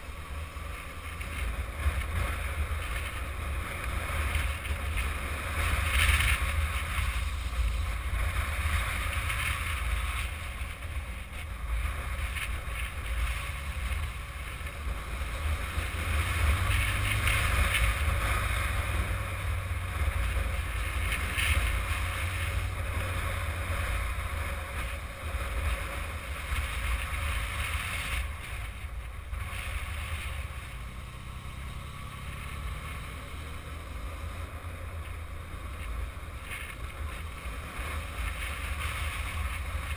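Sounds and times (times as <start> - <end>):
muffled motorcycle engine: 0.0 - 39.9.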